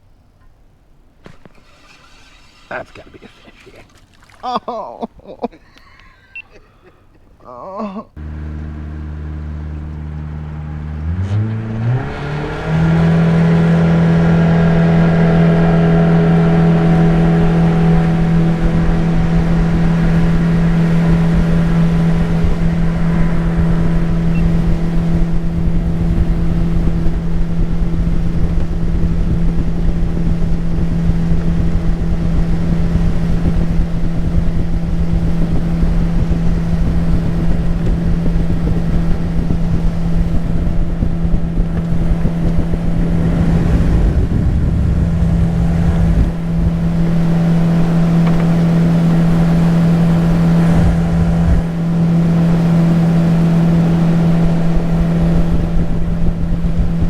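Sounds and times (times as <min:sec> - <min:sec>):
outboard motor running: 0:01.1 - 0:06.8, 0:08.1 - 0:57.0.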